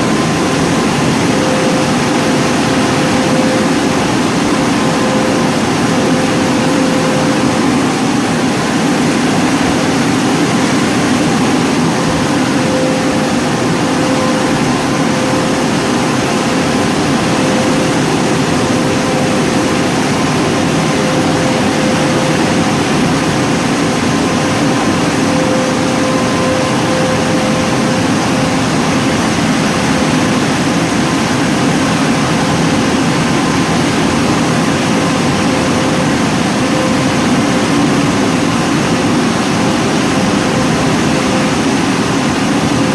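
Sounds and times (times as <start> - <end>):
dryer blowers rushing air: 0.0 - 42.9.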